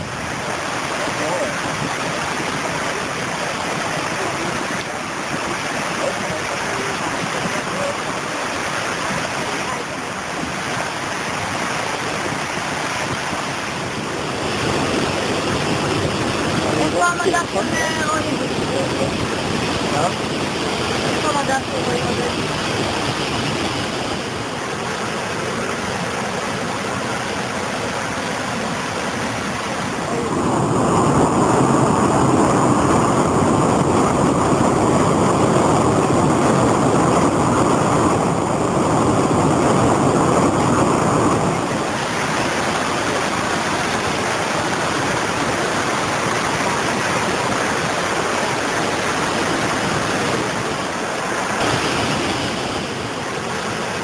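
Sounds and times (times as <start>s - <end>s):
floodwater rushing: 0.0s - 54.0s.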